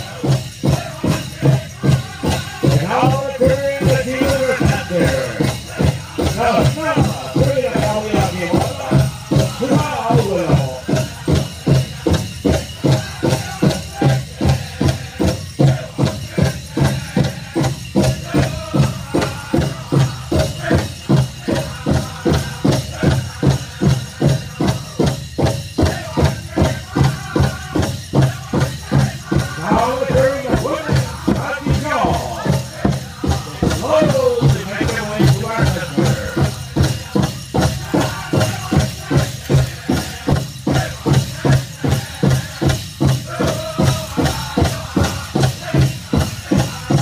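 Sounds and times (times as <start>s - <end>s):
big drum steady beat: 0.0s - 47.0s
high singing voices: 0.0s - 47.0s.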